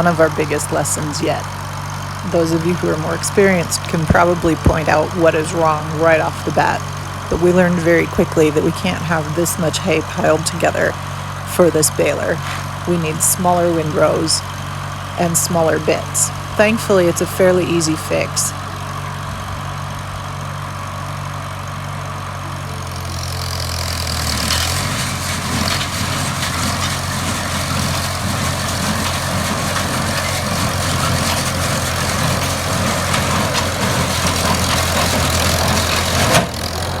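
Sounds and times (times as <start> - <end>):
loud mechanical noise: 0.0 - 37.0
tractor engine running: 0.0 - 37.0.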